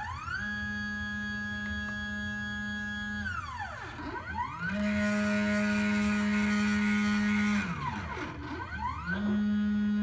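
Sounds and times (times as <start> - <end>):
stepper motor whine: 0.0 - 10.0.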